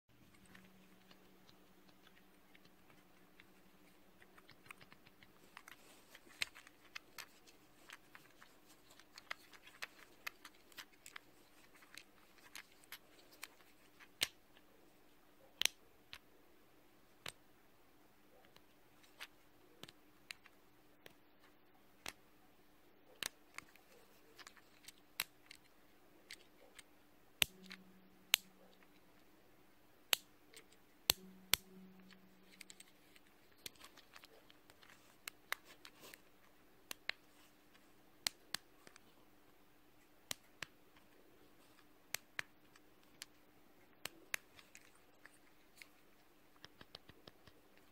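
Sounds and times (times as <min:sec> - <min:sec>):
faint steady hum: 0:00.1 - 0:47.9.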